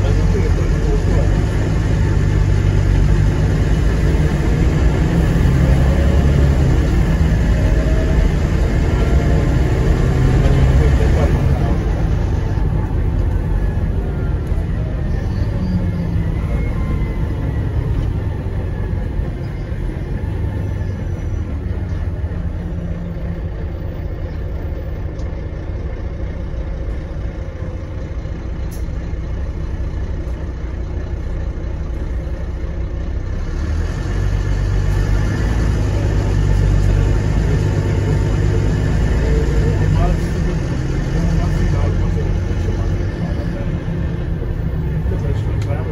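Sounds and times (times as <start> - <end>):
bus diesel engine drone: 0.0 - 45.9.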